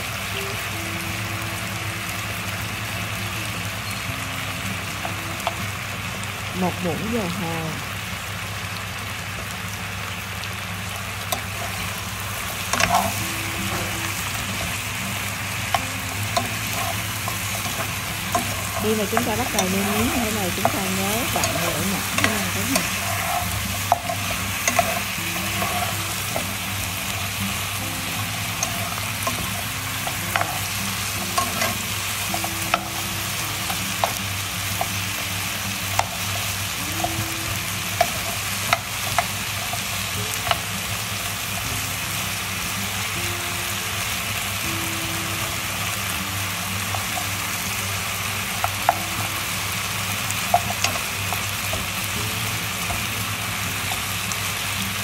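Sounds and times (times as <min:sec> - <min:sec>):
meat sizzling in a pot: 0:00.0 - 0:55.0.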